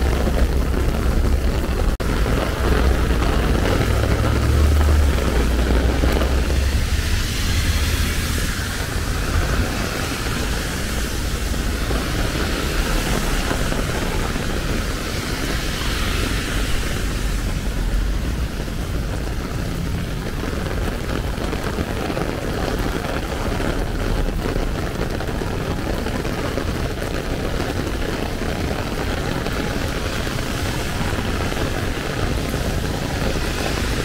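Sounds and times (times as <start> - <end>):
heavy rain on an umbrella: 0.0 - 34.0.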